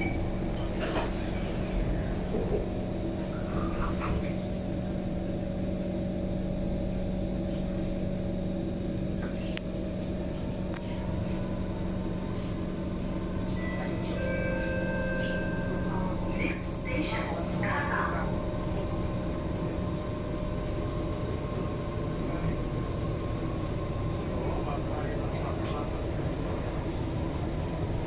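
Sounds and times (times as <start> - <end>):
train equipment hum: 0.0 - 28.0.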